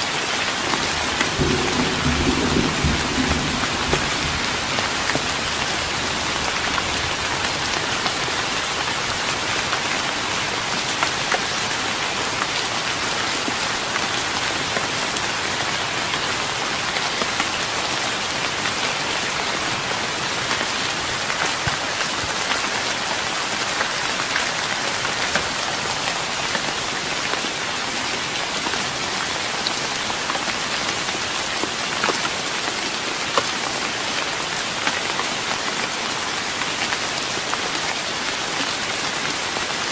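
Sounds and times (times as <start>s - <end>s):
rain on a wooden deck: 0.0s - 39.9s.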